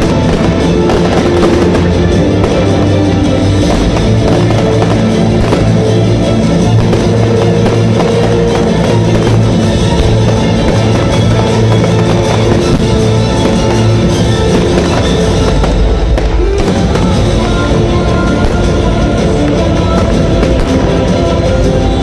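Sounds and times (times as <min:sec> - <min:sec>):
loud music with held chords: 0:00.0 - 0:22.0.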